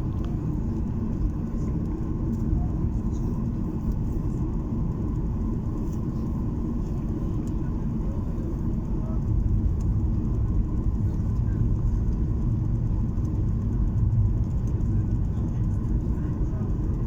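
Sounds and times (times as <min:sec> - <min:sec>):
airliner engines rumbling in cabin: 0:00.0 - 0:17.0.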